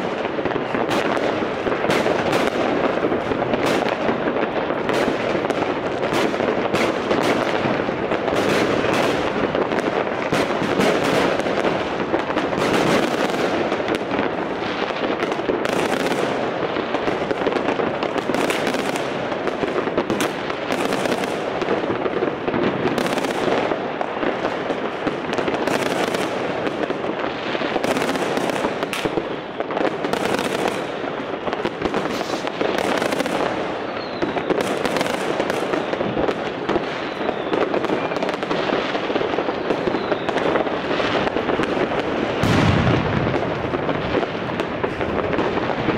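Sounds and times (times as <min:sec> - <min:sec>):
fireworks and firecrackers banging: 0:00.0 - 0:45.9.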